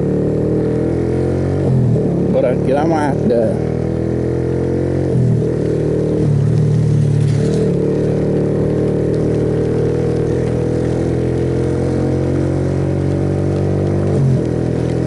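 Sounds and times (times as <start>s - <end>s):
motorcycle engine running: 0.0s - 15.0s
road noise rushing: 0.0s - 15.0s.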